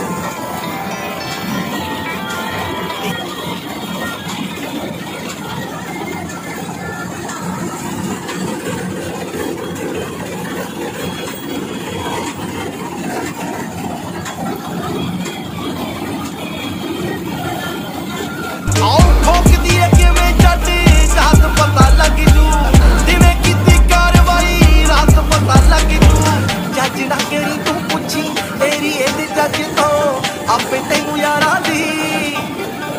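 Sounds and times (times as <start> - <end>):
combine harvester running: 0.0 - 32.9.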